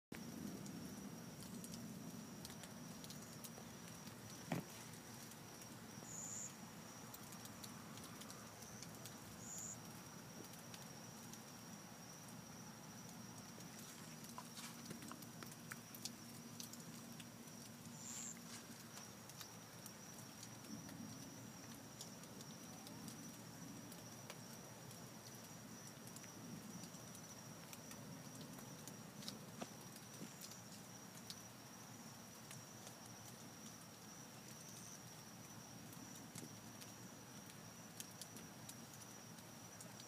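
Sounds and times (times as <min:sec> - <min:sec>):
faint rain: 0:00.1 - 0:40.0.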